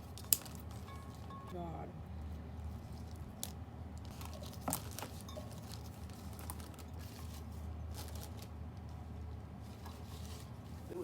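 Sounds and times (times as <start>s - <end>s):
flower wrapping rustling and crinkling: 0.0s - 1.5s, 2.6s - 11.0s
steady low hum: 0.0s - 11.0s.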